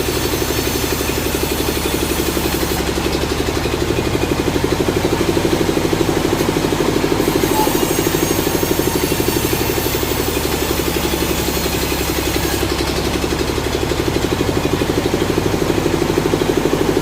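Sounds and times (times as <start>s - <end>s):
sawmill engine throbbing: 0.0s - 17.0s.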